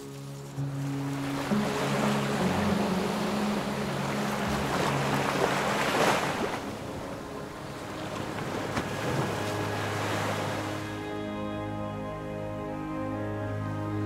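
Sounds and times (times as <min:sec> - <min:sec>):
sea waves washing in: 0:00.0 - 0:11.6
low musical drone: 0:00.0 - 0:14.0.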